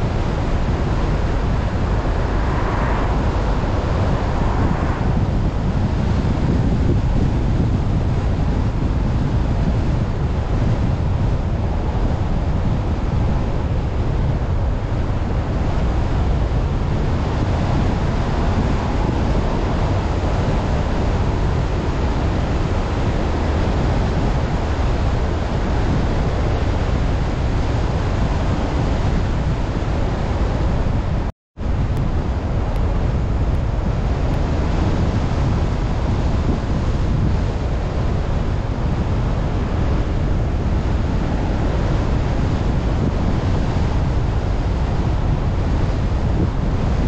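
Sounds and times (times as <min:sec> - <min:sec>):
wind and road noise from car: 0:00.0 - 0:47.0.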